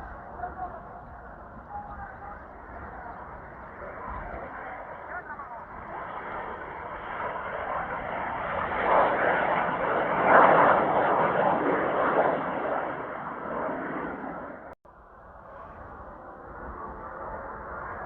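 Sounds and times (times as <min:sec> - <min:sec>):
jet engines passing overhead: 0:00.0 - 0:18.0.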